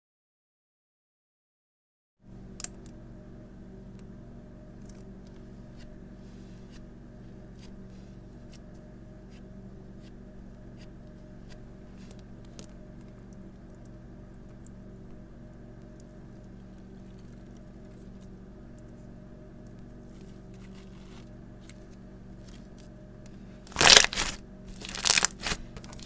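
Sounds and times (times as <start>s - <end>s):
low hum: 2.2s - 26.0s.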